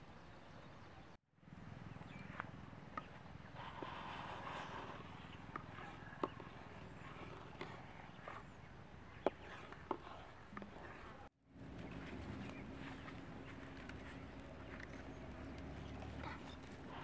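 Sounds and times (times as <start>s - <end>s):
low steady background: 0.0s - 17.0s.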